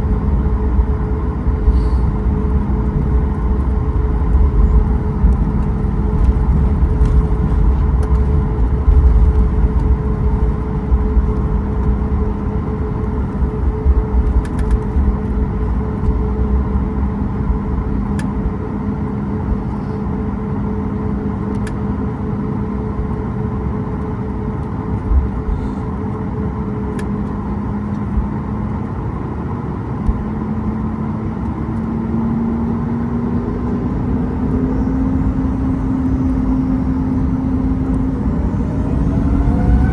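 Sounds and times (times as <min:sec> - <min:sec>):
aircraft engines humming: 0:00.0 - 0:39.9.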